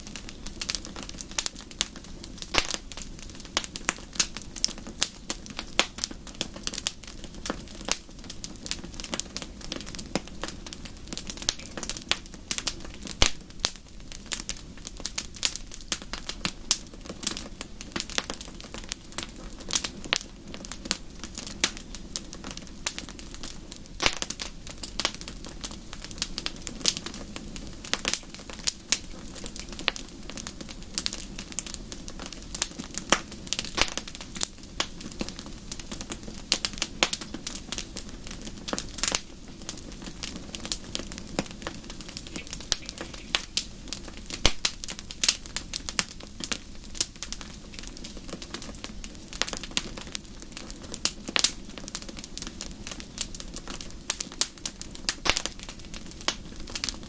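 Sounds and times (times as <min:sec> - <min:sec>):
low rumble of burning: 0:00.0 - 0:57.0
wood fire crackling and popping: 0:00.0 - 0:57.0.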